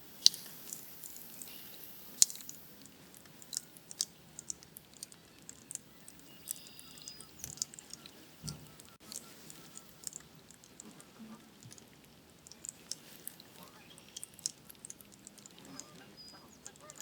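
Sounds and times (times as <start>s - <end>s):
faint steady hiss: 0.0s - 17.0s
raindrops dripping and tapping: 0.0s - 17.0s.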